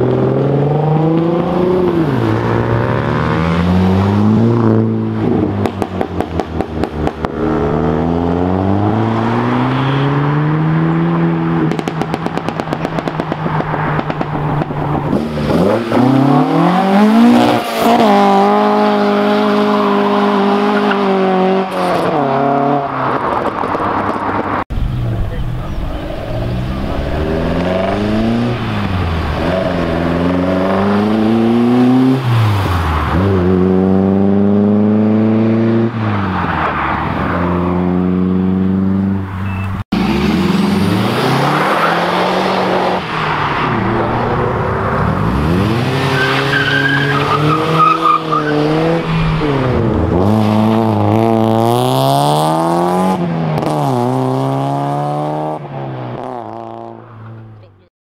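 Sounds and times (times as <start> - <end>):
car engines revving: 0.0 - 57.8.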